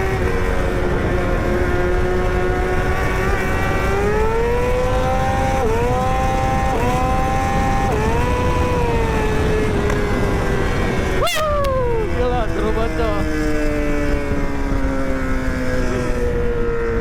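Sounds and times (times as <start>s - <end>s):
motorcycle engine shifting gears: 0.0s - 17.0s
wind and road noise: 0.0s - 17.0s.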